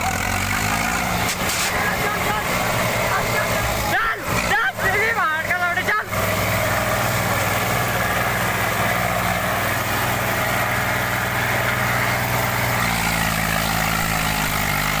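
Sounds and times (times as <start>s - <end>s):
tractor diesel engines under load: 0.0s - 15.0s.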